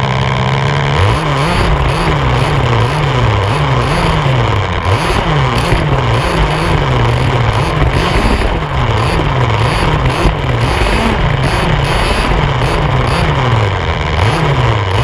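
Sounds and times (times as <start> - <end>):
constant rush of noise: 0.0 - 15.0
two-stroke engine revving: 0.0 - 15.0.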